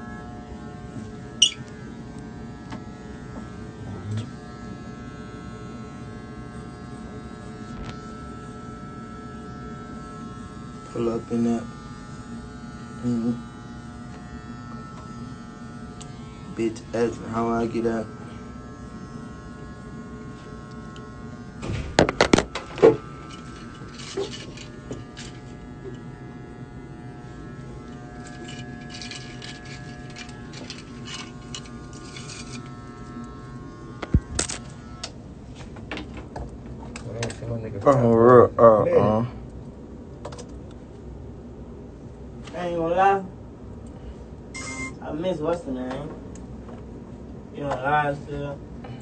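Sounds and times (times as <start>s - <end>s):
electric hair clippers buzzing: 0.0s - 39.5s, 44.5s - 45.7s.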